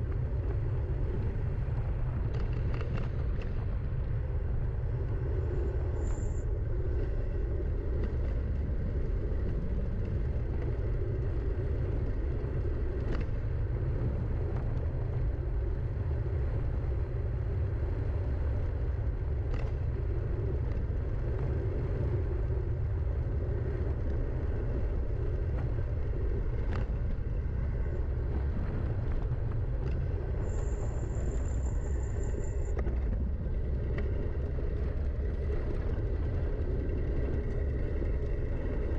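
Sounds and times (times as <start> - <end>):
wind buffeting: 0.0 - 38.9.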